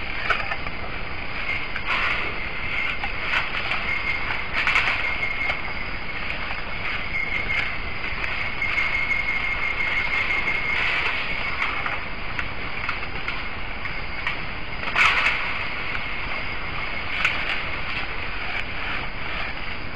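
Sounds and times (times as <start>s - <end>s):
high insect trill: 0.0s - 19.9s.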